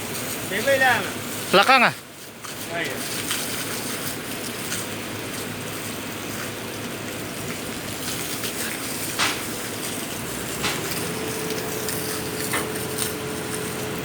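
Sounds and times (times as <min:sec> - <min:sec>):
water gushing: 0:00.0 - 0:14.0.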